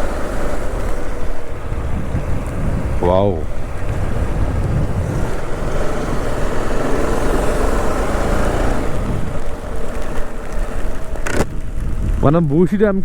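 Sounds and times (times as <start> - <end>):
motorcycle engine: 0.0 - 12.5
road rumble: 0.0 - 13.0.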